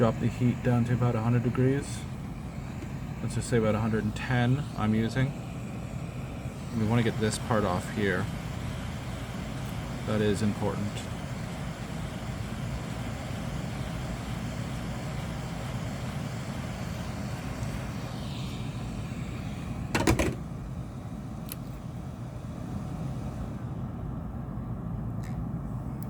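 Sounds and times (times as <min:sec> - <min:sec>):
hot air blowing: 0:00.0 - 0:24.7.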